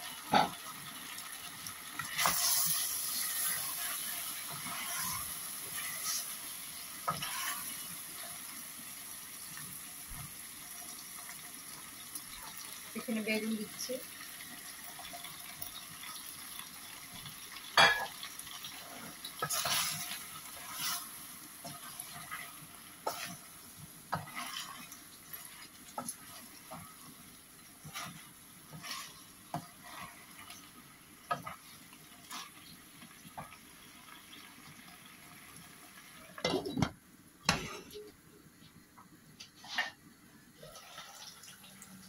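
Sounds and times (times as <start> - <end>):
vegetables sizzling: 0.0 - 38.6, 39.4 - 42.0.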